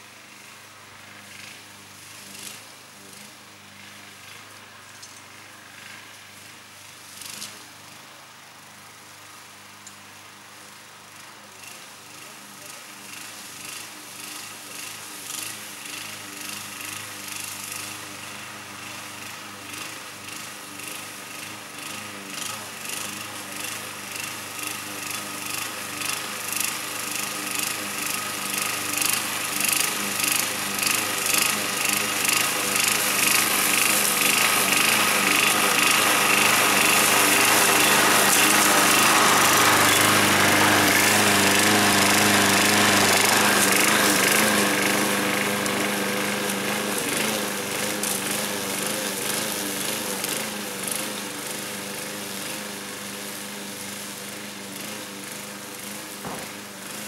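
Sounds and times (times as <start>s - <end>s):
lawn mower cutting grass: 0.0s - 57.0s.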